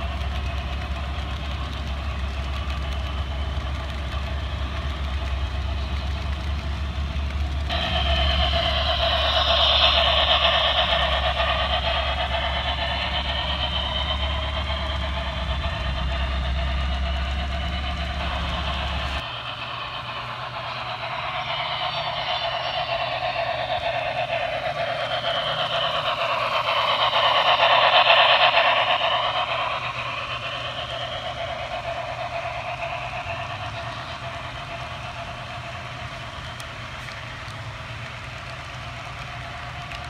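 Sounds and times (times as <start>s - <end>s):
model train rolling rumble: 0.0s - 40.0s.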